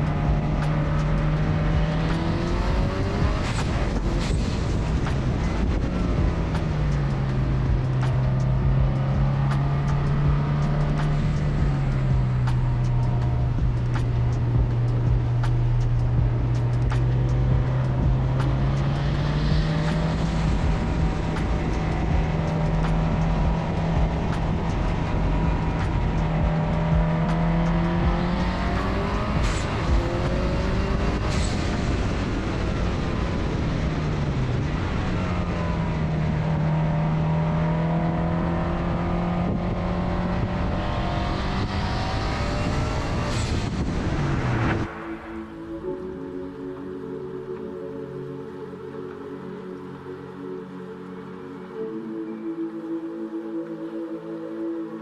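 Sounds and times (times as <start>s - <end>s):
race car engine running hard: 0.0s - 46.0s.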